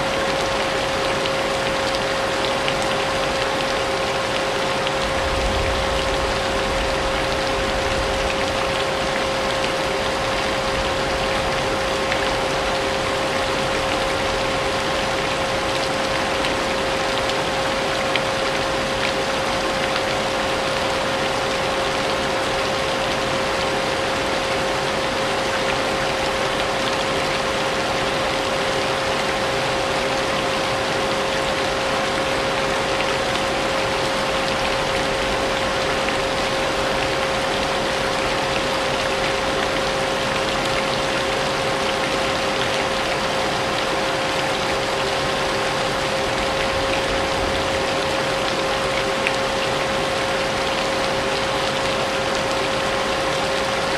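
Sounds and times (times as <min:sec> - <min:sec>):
rain: 0:00.0 - 0:53.9.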